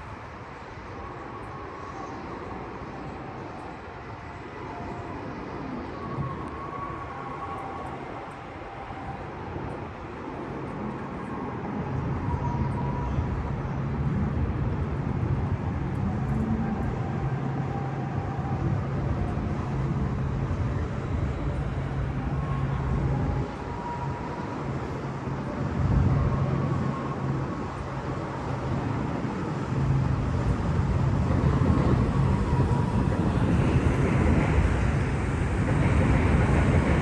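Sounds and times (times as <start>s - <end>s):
city traffic rumble: 0.0s - 37.0s.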